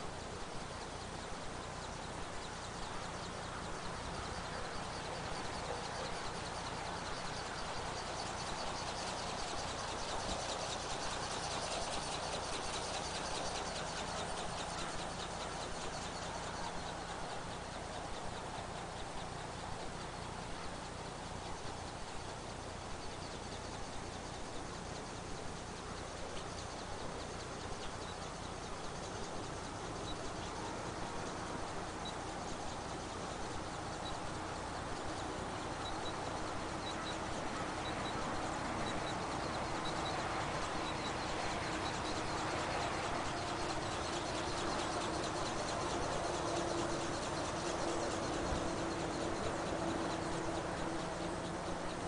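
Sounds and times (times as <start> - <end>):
rhythmic wing-flapping clicks: 0.0 - 52.0.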